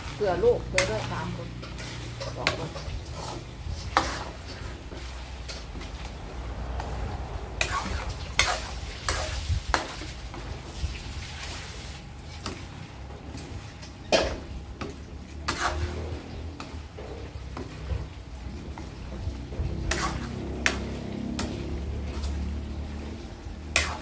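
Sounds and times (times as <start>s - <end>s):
metal spatula scraping a wok: 0.0s - 12.7s, 13.5s - 24.0s
pork sizzling in fat: 0.0s - 24.0s.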